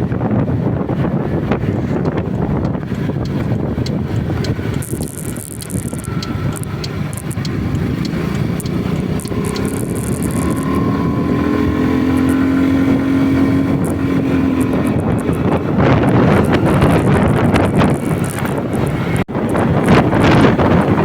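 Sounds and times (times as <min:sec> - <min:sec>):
road and wind noise: 0:00.0 - 0:21.0
vehicle engine running: 0:00.0 - 0:21.0.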